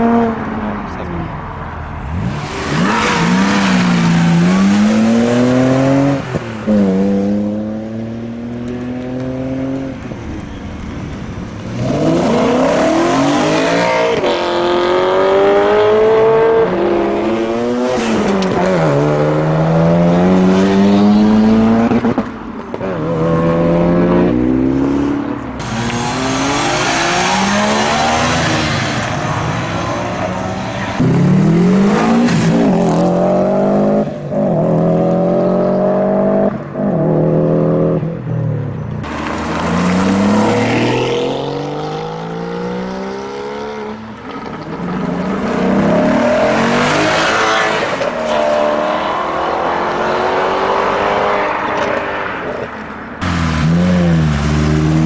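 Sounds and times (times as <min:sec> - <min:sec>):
cars accelerating hard: 0:02.0 - 0:10.1, 0:11.6 - 0:38.1, 0:39.0 - 0:55.0.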